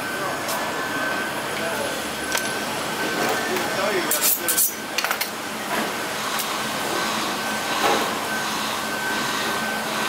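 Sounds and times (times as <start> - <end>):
busy market background noise: 0.0 - 10.0.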